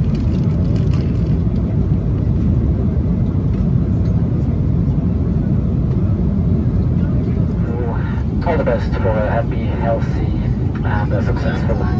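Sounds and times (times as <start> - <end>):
airliner cabin rumble: 0.0 - 11.9.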